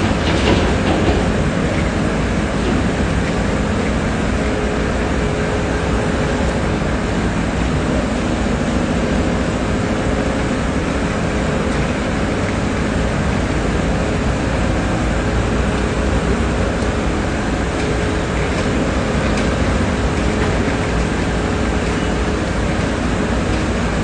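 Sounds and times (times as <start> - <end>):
diesel truck engine rumbling: 0.0 - 24.0
street traffic: 0.0 - 24.0.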